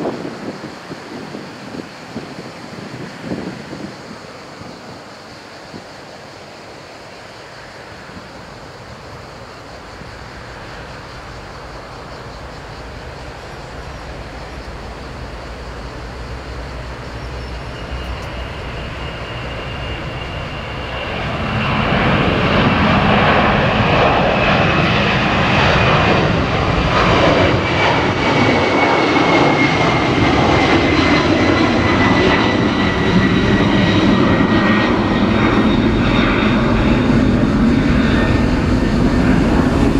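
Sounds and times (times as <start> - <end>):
airliner engines with high whine: 0.0 - 39.9.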